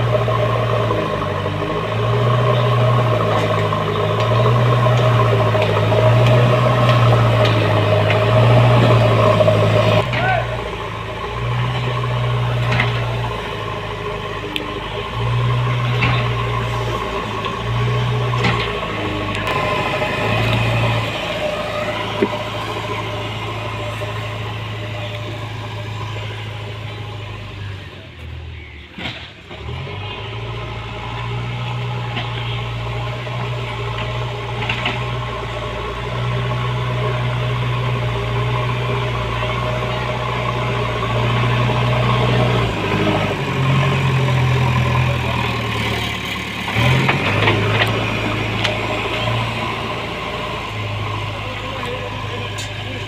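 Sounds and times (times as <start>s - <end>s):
diesel engine under load: 0.0s - 53.0s.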